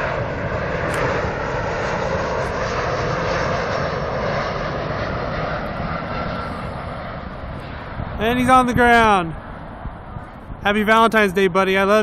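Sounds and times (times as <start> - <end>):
airliner engines passing low: 0.0 - 12.0.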